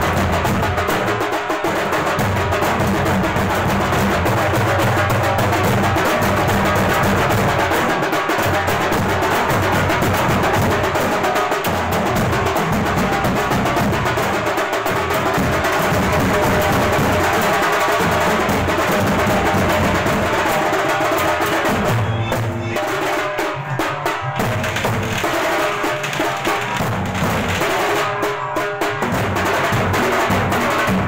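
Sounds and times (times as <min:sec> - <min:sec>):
drum troupe drumming: 0:00.0 - 0:31.0.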